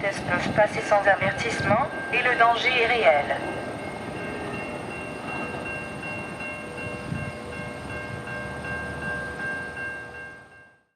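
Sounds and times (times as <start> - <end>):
train wheels rumbling on rails: 0.0 - 10.6
steady high ringing tones: 0.0 - 10.9.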